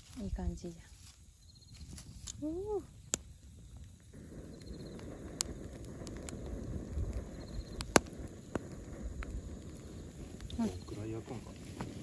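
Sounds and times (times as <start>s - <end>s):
fire crackling and popping: 0.0s - 12.0s
low rush of flame: 1.2s - 12.0s.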